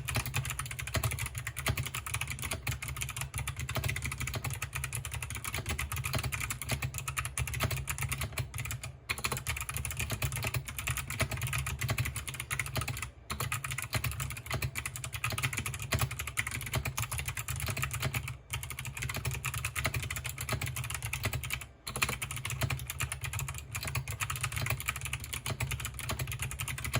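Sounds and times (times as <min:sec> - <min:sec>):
fast typing on clicky keyboard: 0:00.0 - 0:26.9.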